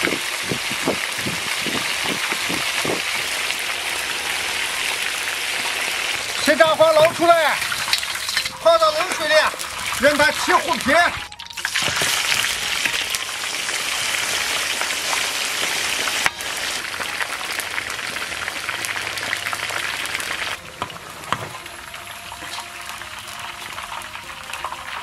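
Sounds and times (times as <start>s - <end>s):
hooves sizzling in hot oil: 0.0s - 25.0s.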